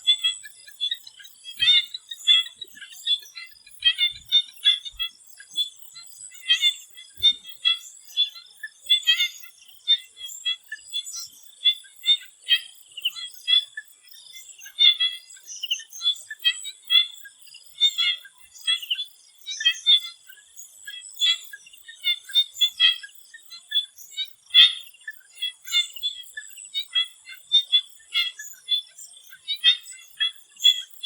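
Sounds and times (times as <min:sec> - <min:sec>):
frogs croaking: 0:00.0 - 0:31.0.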